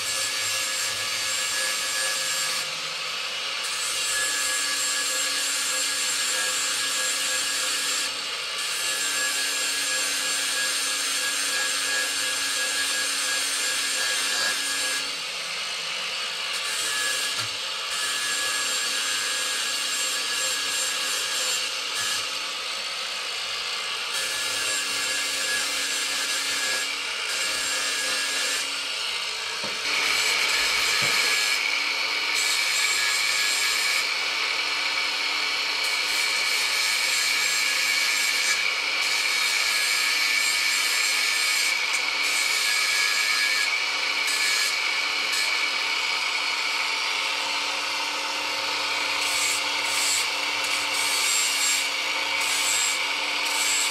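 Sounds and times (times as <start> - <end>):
handheld power tool grinding: 0.0 - 53.9.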